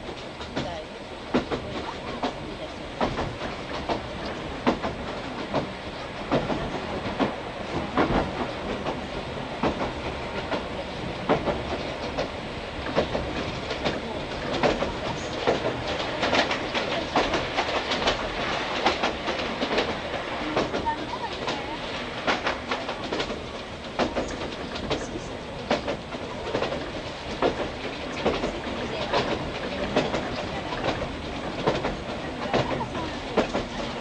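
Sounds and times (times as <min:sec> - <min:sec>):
train running rumble: 0:00.0 - 0:34.0
train wheels clacking over rail joints: 0:00.0 - 0:34.0.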